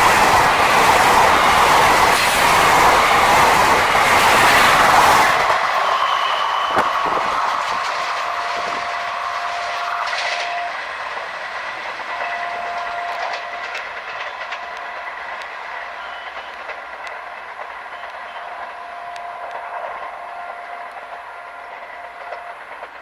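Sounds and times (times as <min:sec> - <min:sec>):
train rolling on rails: 0:00.0 - 0:23.0.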